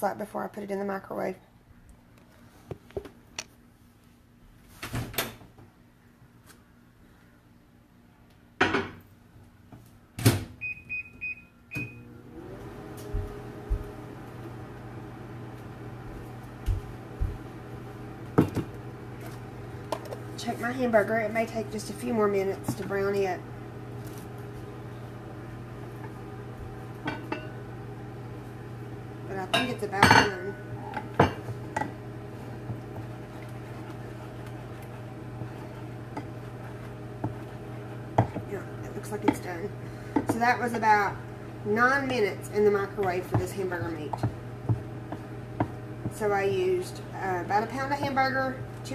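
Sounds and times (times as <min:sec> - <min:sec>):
microwave humming: 0:08.2 - 0:48.9.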